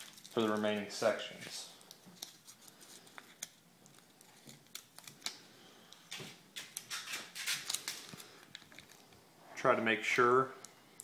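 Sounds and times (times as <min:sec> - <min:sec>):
plastic film rustling: 0:00.0 - 0:09.2.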